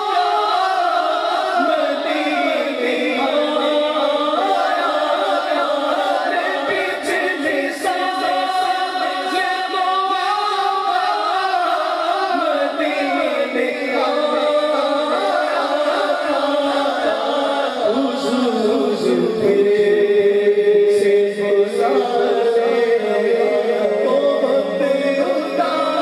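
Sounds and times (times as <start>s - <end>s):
man singing into a microphone: 0.0s - 26.0s.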